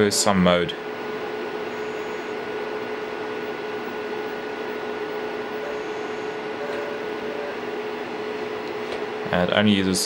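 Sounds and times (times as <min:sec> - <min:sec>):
light mechanical hum with tone: 0:00.0 - 0:10.0.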